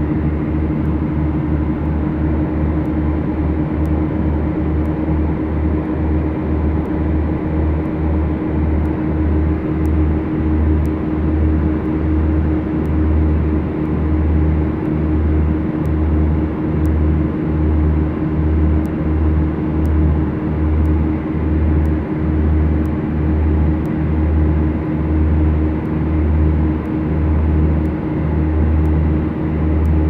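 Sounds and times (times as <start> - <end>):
twin piston aircraft engines droning: 0.0 - 30.0.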